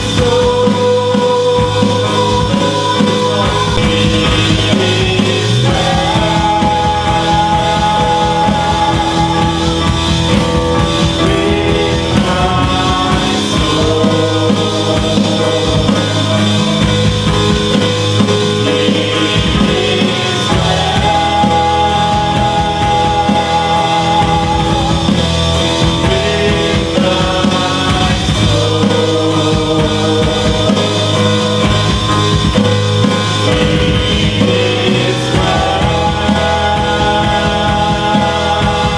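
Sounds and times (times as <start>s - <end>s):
drums: 0.0s - 38.9s
guitar: 0.0s - 38.9s
people singing: 0.0s - 38.9s.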